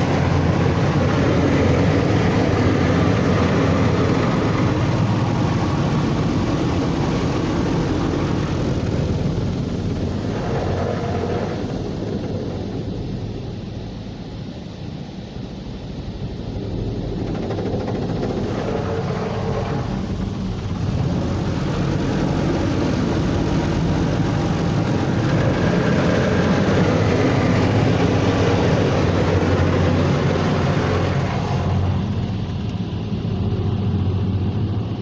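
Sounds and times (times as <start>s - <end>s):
low pump hum: 0.0s - 35.0s.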